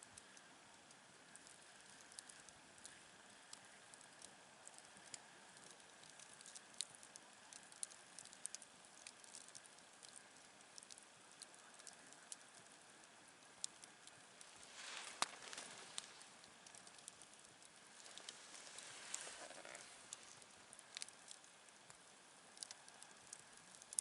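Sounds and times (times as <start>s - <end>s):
campfire crackling and popping: 0.0s - 24.0s
soft fire hiss: 0.0s - 24.0s.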